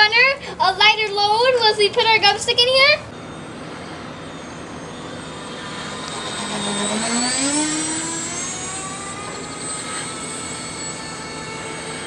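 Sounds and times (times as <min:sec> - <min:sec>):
model plane ducted fans whining: 0:00.0 - 0:12.0.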